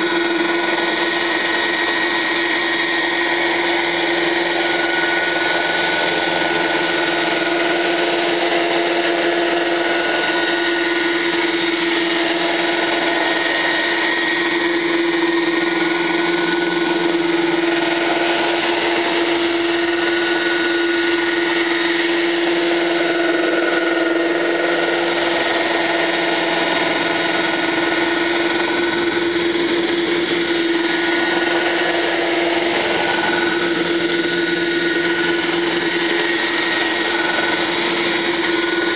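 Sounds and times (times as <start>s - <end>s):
model helicopter rotor whine: 0.0s - 38.9s.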